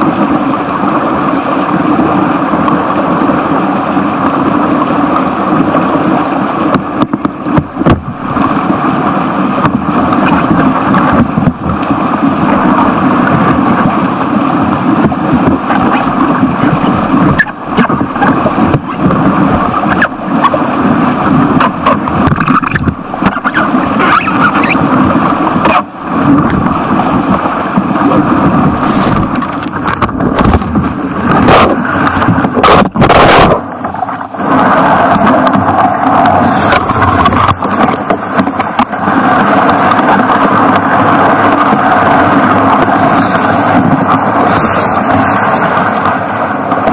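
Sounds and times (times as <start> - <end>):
stream rapids rushing: 0.0 - 46.9.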